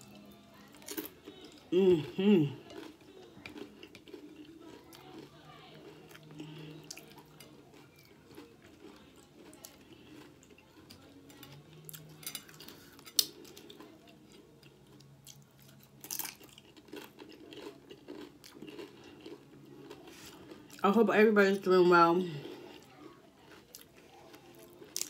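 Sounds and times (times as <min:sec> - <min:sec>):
chewing and crunching chips: 0:00.0 - 0:25.0.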